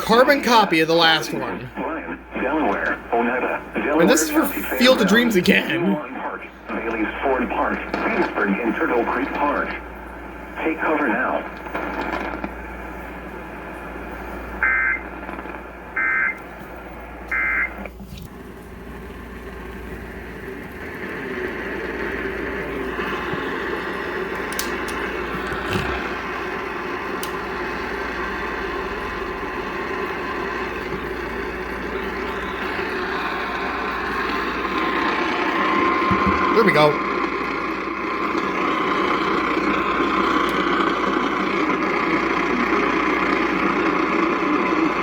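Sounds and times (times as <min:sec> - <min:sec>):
radio static hiss and hum: 0:00.0 - 0:45.0.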